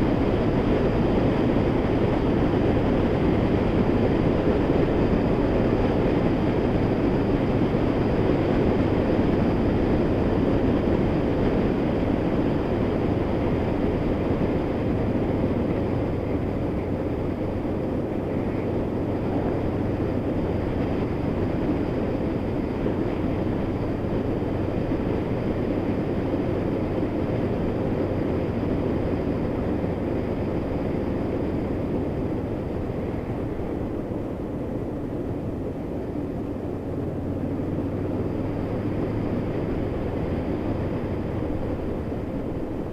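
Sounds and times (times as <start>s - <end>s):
motorcycle engine running: 0.0s - 42.9s
wind rush on microphone: 0.0s - 42.9s.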